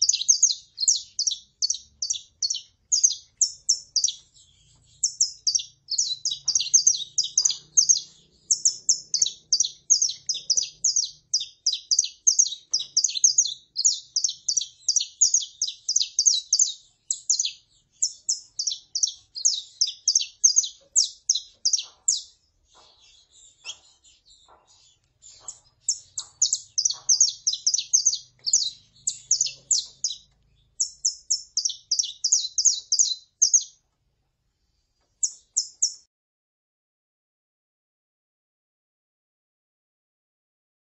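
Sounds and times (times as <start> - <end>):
finches calling and singing: 0.0 - 33.8, 35.2 - 36.1.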